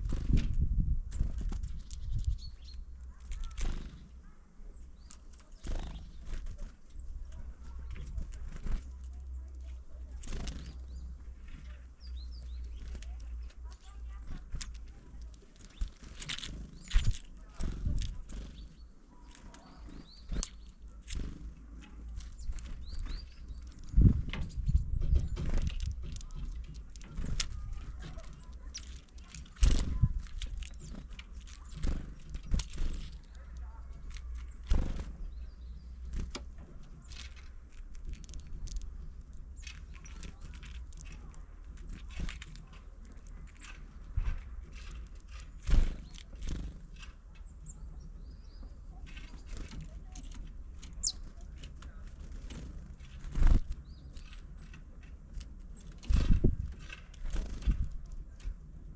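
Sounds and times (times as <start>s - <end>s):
birds pecking on feeder: 0.0s - 58.9s.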